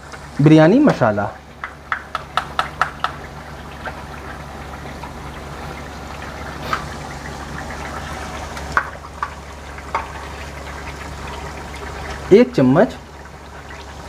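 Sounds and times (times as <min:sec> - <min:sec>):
hot oil sizzling and bubbling: 0:00.0 - 0:14.0.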